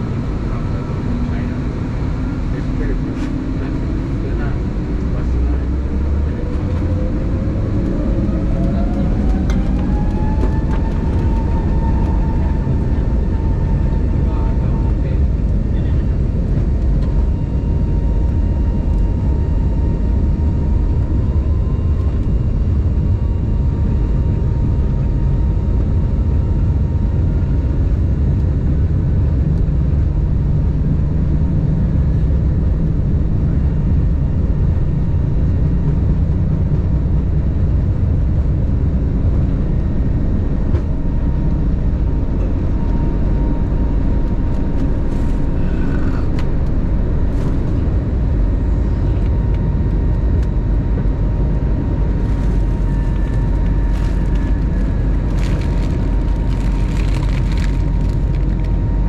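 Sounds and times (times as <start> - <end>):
aircraft cabin engine noise: 0.0 - 59.0
faint steady whine: 0.0 - 59.0.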